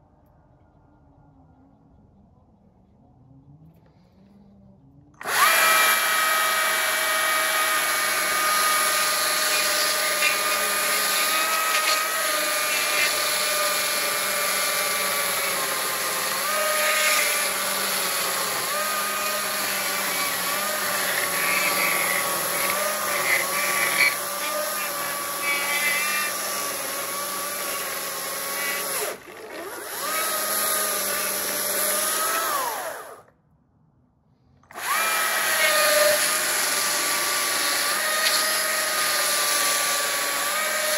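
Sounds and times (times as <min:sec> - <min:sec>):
chainsaw cutting wood: 0:05.2 - 0:33.3, 0:34.7 - 0:40.9.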